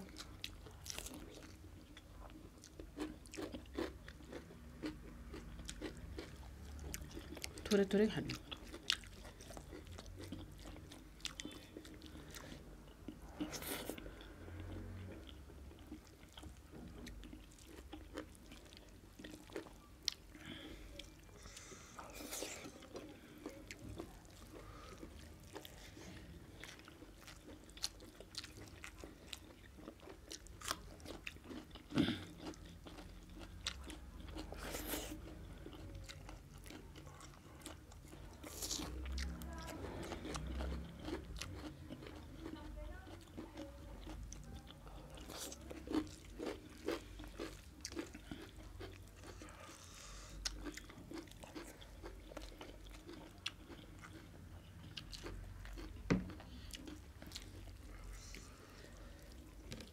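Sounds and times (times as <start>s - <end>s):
person chewing and lip-smacking: 0.0s - 59.9s.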